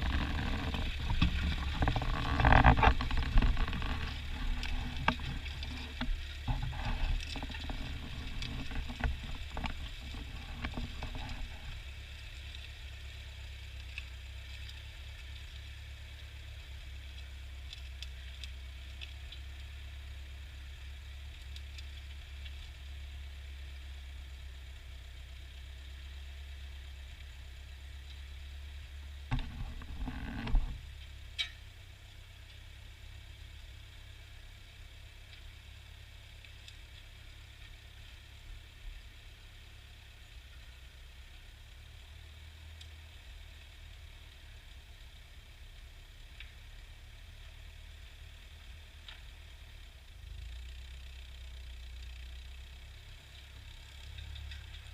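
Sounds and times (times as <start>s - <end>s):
tractor engine humming: 0.0s - 54.9s.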